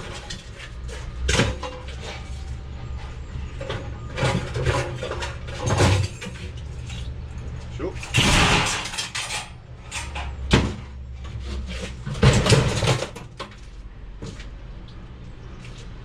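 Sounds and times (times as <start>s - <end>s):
metal parts scraping and rattling: 0.0s - 13.8s.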